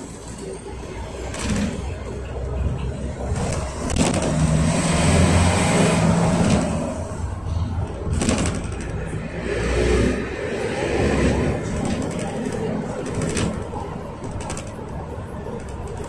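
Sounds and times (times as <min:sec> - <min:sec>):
diesel engine pulling: 0:00.0 - 0:16.0
road noise: 0:00.0 - 0:16.0.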